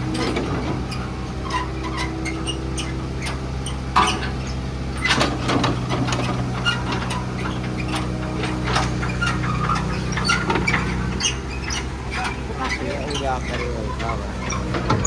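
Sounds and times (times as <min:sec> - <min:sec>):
heavy machinery engine running: 0:00.0 - 0:15.0
metal clicks knocks and squeaks: 0:00.0 - 0:15.0.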